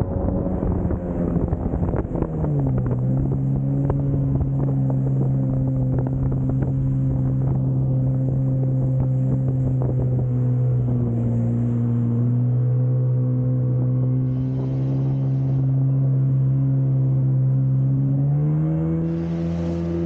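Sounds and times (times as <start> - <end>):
wind noise on microphone: 0.0 - 17.3
jet ski engine running: 0.0 - 20.0
water splashing: 0.0 - 20.0.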